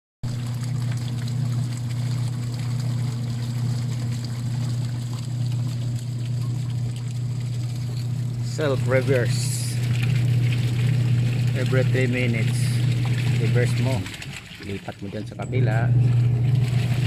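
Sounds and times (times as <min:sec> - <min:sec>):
washing machine motor hum: 0:00.2 - 0:17.0
water sloshing in tub: 0:00.2 - 0:17.0.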